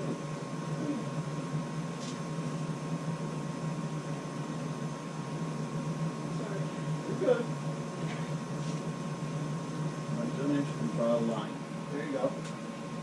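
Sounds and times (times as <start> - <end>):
faint constant whine: 0.0 - 13.0
mechanical hum: 0.0 - 13.0.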